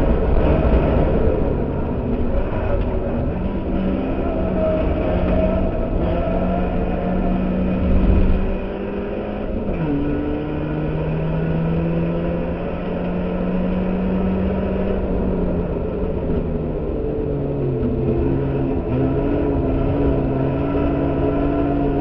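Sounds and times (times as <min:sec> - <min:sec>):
race car engine under load: 0:00.0 - 0:22.0
road noise: 0:00.0 - 0:22.0.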